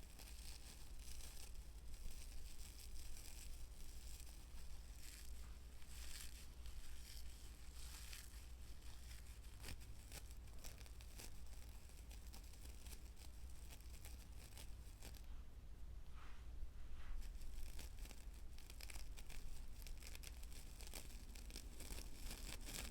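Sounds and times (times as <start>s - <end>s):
material crackling and scratching: 0.0s - 15.4s, 16.1s - 22.9s
steady low hum: 4.0s - 22.9s.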